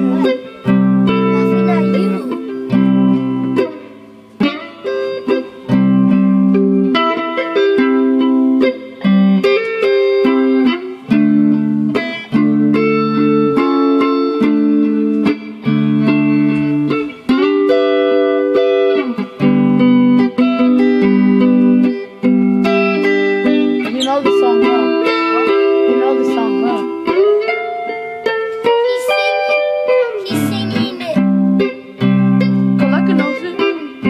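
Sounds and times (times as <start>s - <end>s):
electric guitar chords and notes: 0.0s - 34.0s.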